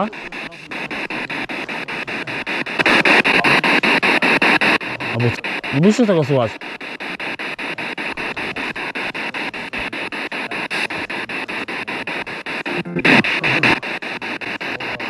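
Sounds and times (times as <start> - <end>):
pulsing radio static: 0.0 - 15.0
radio voice: 0.0 - 15.0.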